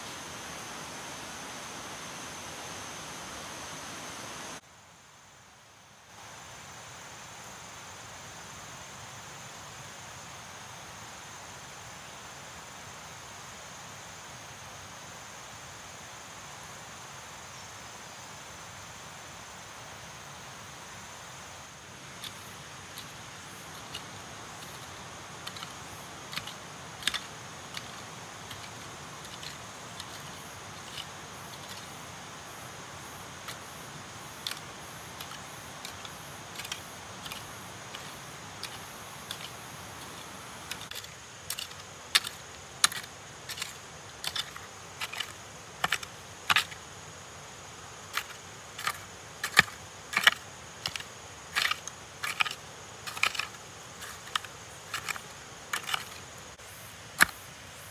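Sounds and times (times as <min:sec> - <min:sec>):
faint hiss: 0:00.0 - 0:57.9.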